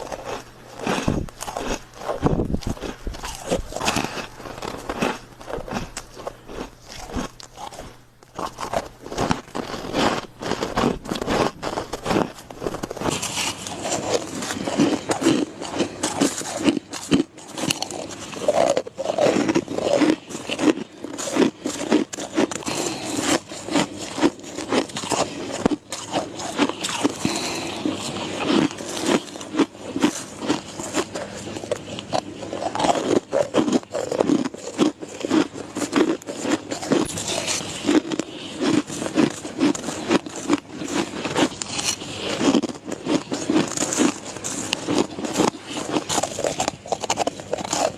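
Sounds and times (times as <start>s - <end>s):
chewing ice crunching: 0.0s - 47.9s.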